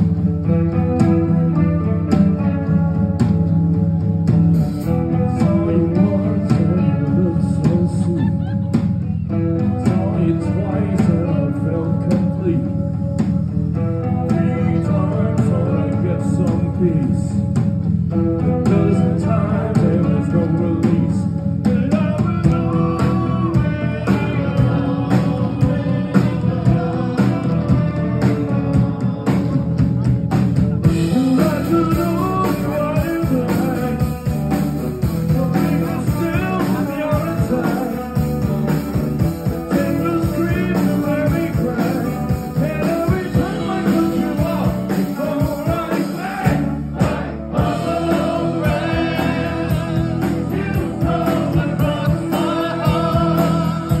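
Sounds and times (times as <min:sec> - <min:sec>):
drums: 0:00.0 - 0:54.0
electric guitars: 0:00.0 - 0:54.0
keyboards: 0:00.0 - 0:54.0
lead vocal singing: 0:04.6 - 0:54.0.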